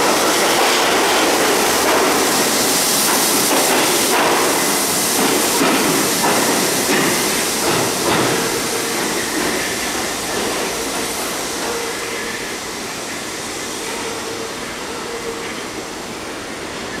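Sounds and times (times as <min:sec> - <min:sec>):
subway train pulling away: 0:00.0 - 0:17.0.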